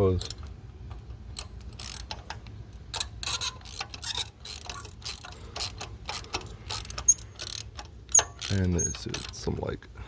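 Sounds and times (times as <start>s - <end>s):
ratchet wrench clicking: 0.0s - 9.6s.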